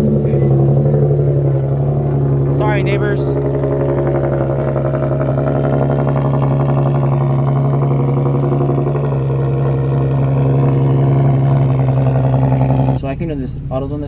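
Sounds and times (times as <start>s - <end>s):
car engine and exhaust droning: 0.0s - 14.0s.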